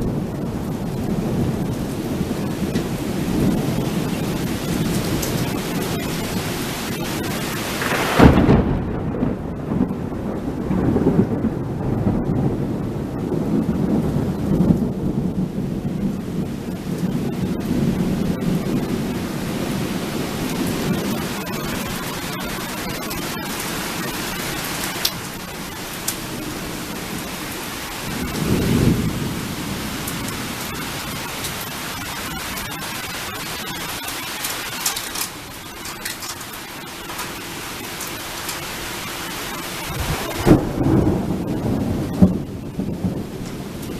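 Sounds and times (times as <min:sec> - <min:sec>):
steady rain: 0:00.0 - 0:43.9
thunder crack and rumble: 0:00.0 - 0:43.9.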